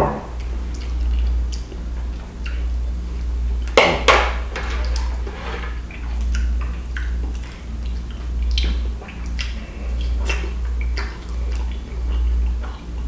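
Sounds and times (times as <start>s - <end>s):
steady low hum: 0.0s - 13.0s
chewing: 0.4s - 3.8s, 4.5s - 13.0s.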